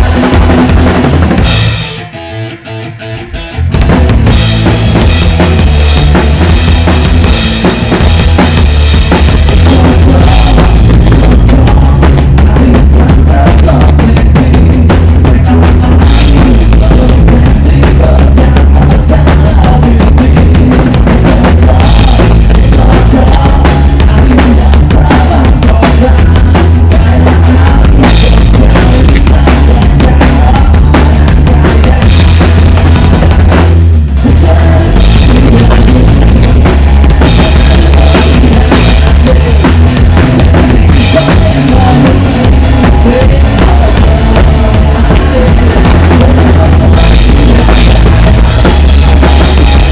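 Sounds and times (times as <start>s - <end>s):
bass drum thumps: 0.0s - 1.8s, 3.7s - 49.9s
rock band playing loud: 0.0s - 49.9s.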